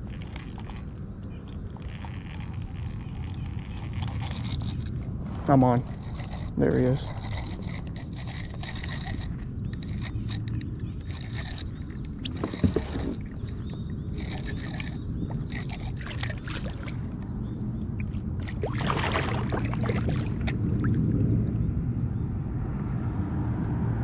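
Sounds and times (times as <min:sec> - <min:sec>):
water sloshing and splashing: 0:00.0 - 0:21.3.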